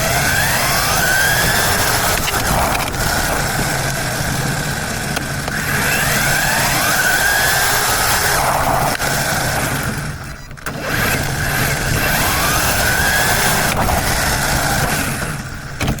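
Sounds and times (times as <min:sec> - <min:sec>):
rc car motor whining: 0:00.0 - 0:16.0.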